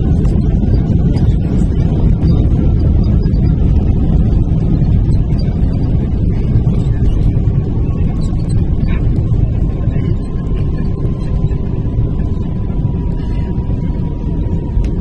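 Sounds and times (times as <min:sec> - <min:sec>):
airplane cabin low rumble: 0:00.0 - 0:15.0.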